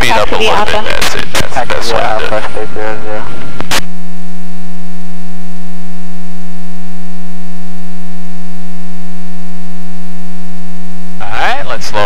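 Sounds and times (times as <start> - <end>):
loud electrical hum: 0.0 - 11.5.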